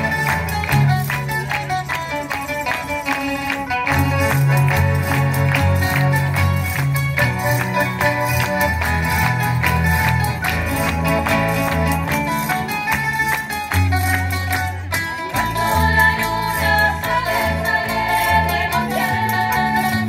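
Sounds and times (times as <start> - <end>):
strummed guitars and plucked strings: 0.0 - 20.0
bass line: 3.9 - 20.0.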